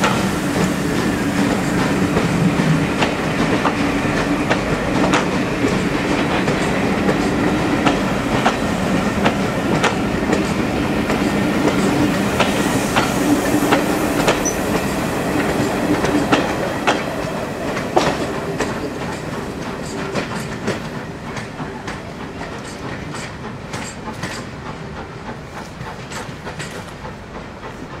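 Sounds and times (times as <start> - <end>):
train wheels clicking over rail joints: 0.0 - 28.0.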